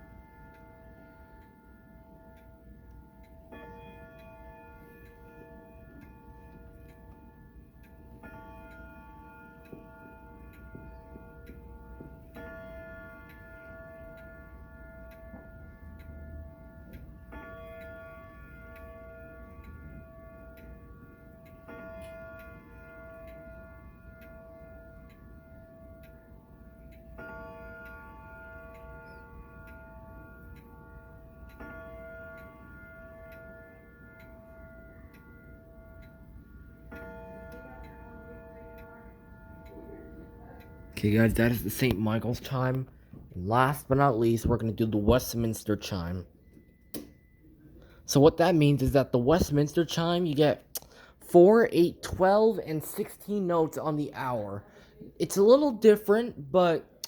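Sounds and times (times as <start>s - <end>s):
clock ticking: 0.0s - 57.0s
grandfather clock chiming: 0.0s - 57.0s.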